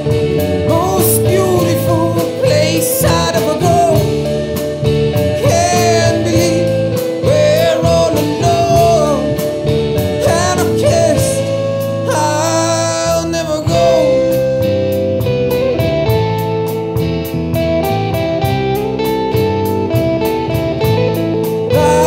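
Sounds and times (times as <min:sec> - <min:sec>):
bending guitar lead line: 0:00.0 - 0:22.0
rock band playing: 0:00.0 - 0:22.0.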